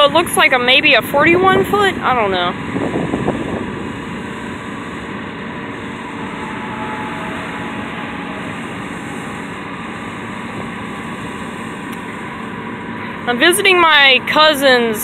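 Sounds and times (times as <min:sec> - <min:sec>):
combine harvester droning: 0:00.0 - 0:15.0
faint machine whine: 0:00.0 - 0:15.0.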